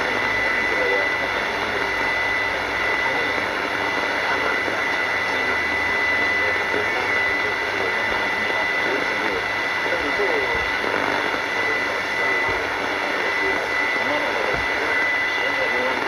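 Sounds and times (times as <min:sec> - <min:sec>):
faint voice: 0:00.0 - 0:16.0
radio static hiss: 0:00.0 - 0:16.0.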